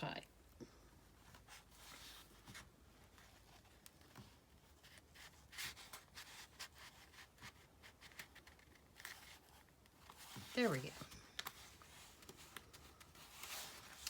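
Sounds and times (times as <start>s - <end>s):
paper card scraping and rustling: 1.3s - 14.0s.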